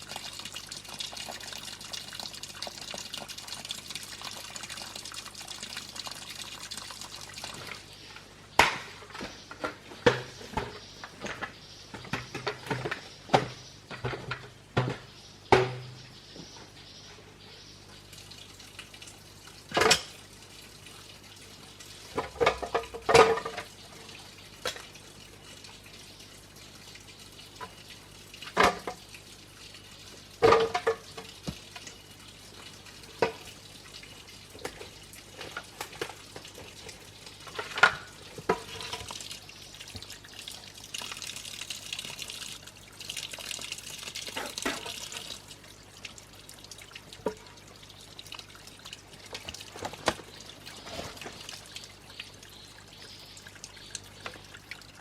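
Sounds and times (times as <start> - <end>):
water pouring: 0.0 - 8.0, 18.0 - 55.0.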